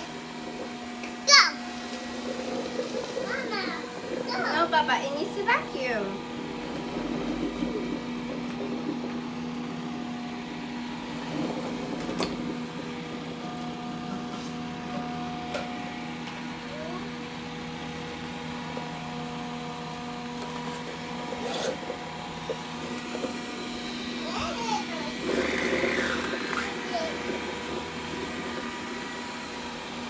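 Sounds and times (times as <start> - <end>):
robot vacuum motor hum: 0.0 - 30.0.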